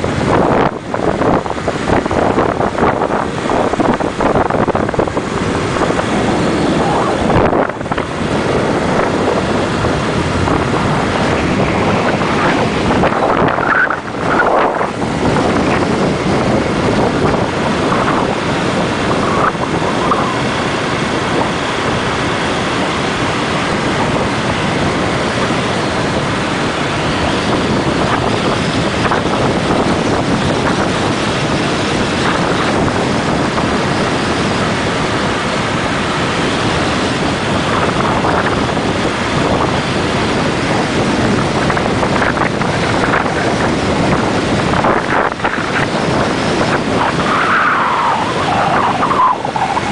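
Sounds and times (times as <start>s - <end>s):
road and engine noise: 0.0s - 49.9s
wind rushing over microphone: 0.0s - 49.9s.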